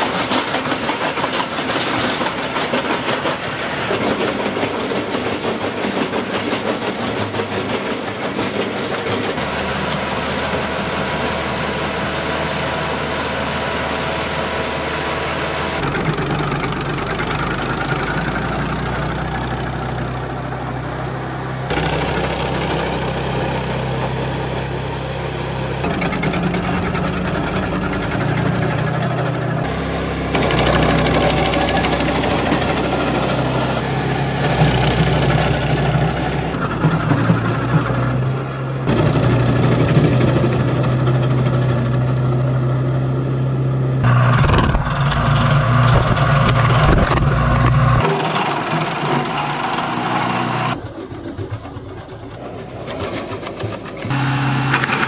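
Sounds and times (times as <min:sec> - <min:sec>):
wood chipper chipping branches: 0:00.0 - 0:55.0.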